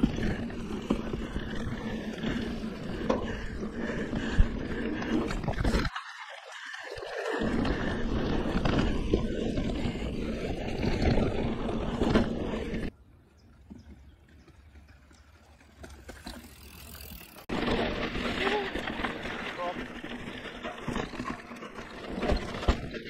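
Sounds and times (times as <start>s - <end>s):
bike tyres on dirt trail: 0.0s - 23.0s.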